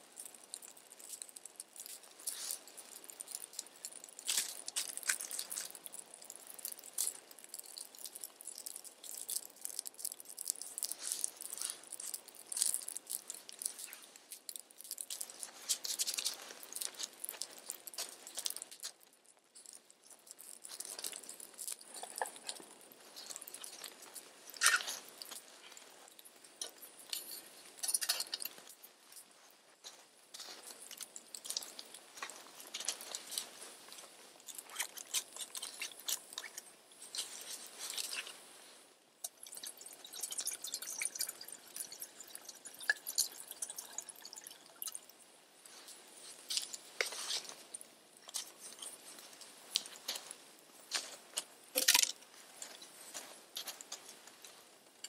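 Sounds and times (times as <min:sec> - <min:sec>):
twig fire crackling: 0:00.0 - 0:55.0.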